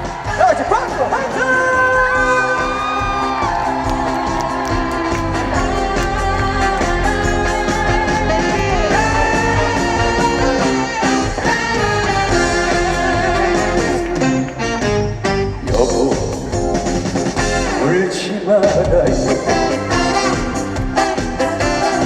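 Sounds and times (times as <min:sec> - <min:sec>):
held lead melody: 0:00.0 - 0:18.2, 0:19.1 - 0:22.0
live band playing: 0:00.0 - 0:22.0.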